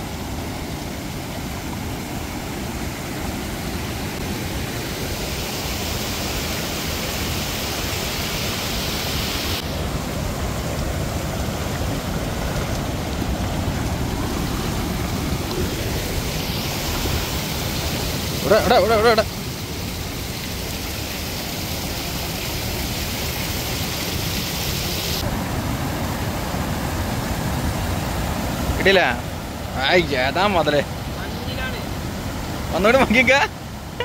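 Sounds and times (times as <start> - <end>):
water rushing over weir: 0.0 - 34.0.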